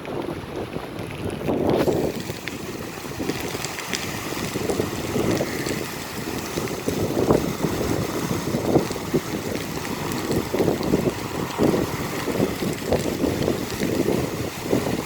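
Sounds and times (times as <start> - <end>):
rushing water splashing: 0.4 - 15.0.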